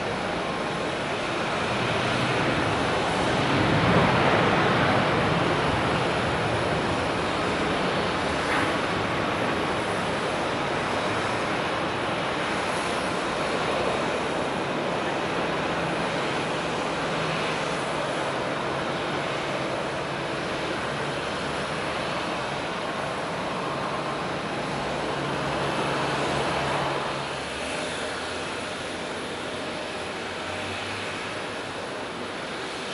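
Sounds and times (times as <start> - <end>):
jet engines rushing: 0.0 - 32.9.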